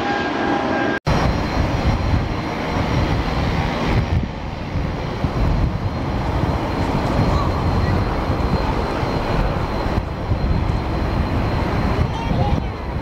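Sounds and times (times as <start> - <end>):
airplane engine high whine: 0.0 - 13.0
deep engine rumble: 1.1 - 13.0.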